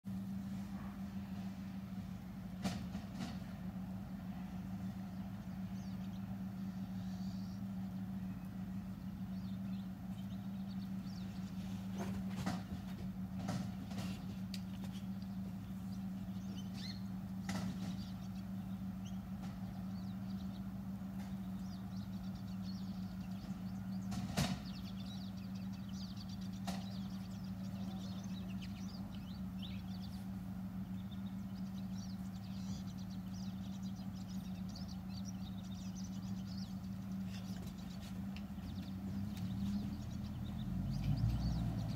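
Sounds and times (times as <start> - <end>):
low machine hum: 0.1 - 41.9.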